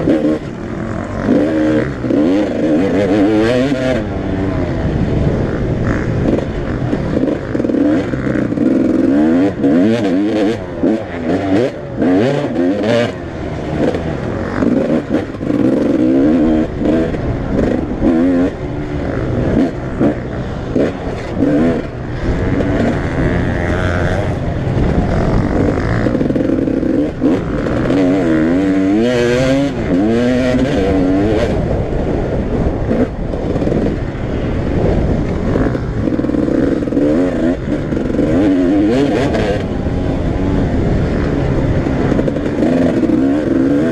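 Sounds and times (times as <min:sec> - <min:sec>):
motocross bike engines: 0:00.0 - 0:43.9.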